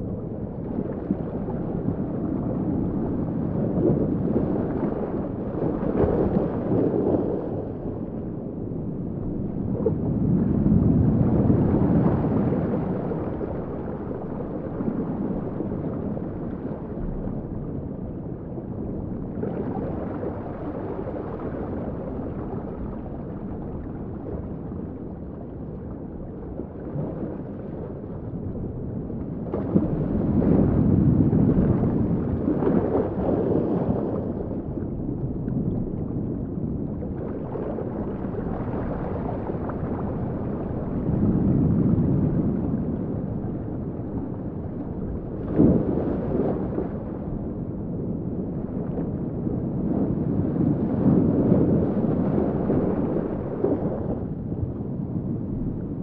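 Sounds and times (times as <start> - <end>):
muffled underwater rush: 0.0 - 56.0.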